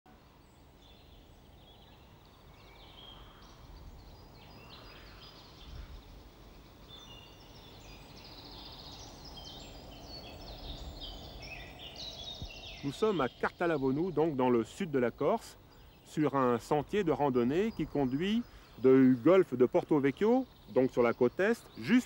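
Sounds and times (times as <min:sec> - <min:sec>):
songbirds trilling: 0:00.1 - 0:22.0.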